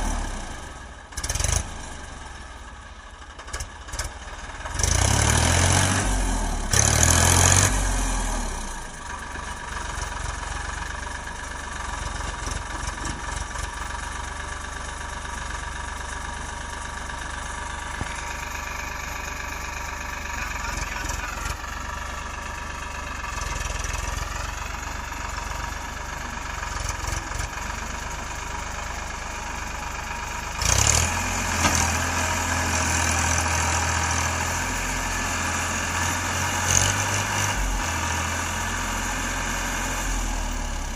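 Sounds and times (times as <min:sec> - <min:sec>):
diesel engines idling: 0:00.0 - 0:40.9.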